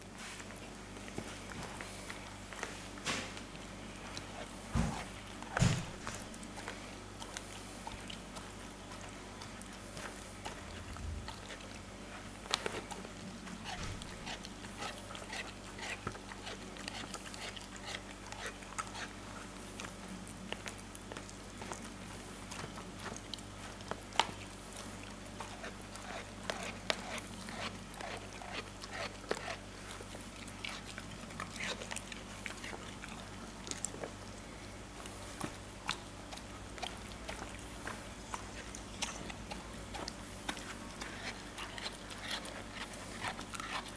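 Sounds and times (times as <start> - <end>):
faint steady hum: 0.0 - 43.9
dog licking: 4.0 - 34.2, 35.0 - 43.9.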